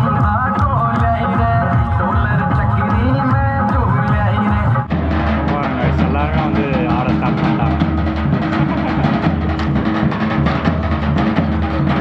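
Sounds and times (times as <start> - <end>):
dance music with dhol drumming: 0.0 - 12.0.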